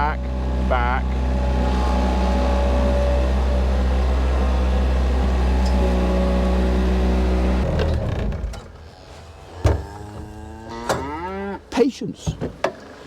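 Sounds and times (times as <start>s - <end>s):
tractor engine humming: 0.0s - 11.1s.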